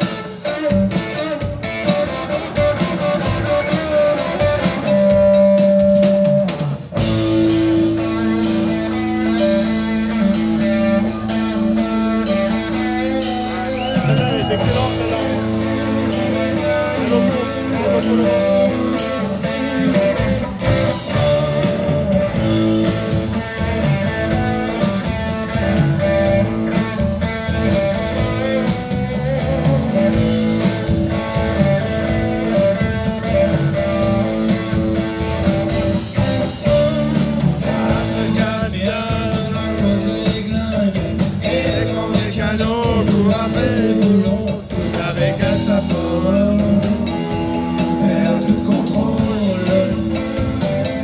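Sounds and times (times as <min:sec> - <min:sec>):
bass guitar: 0:00.0 - 0:51.0
drum kit beat: 0:00.0 - 0:51.0
electric guitars: 0:00.0 - 0:51.0.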